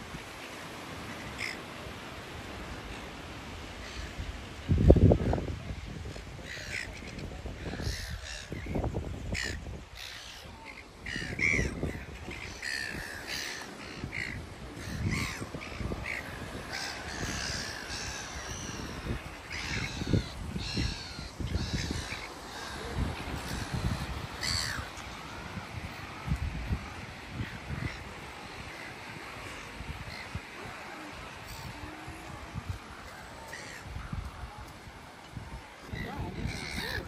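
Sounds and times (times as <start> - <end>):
gulls calling: 6.1 - 37.0.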